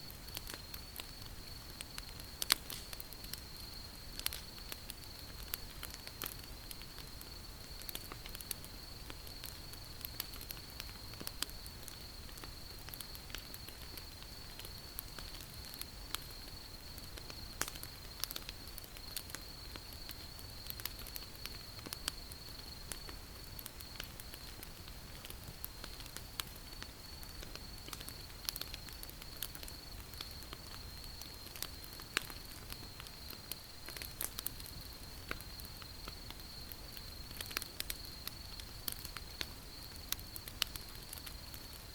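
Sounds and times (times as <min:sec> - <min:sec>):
campfire crackling and popping: 0:00.0 - 0:41.9
crickets trilling: 0:00.0 - 0:41.9.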